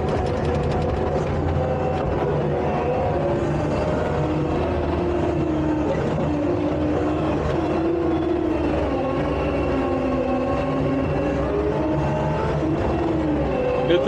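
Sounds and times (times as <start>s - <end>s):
diesel engine running under load: 0.0s - 14.0s
hydraulic whines: 0.0s - 14.0s.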